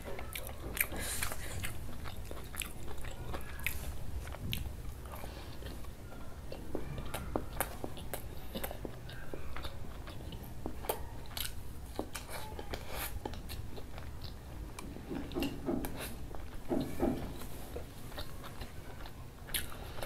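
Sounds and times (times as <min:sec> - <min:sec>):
person chewing with lip smacks: 0:00.0 - 0:20.0.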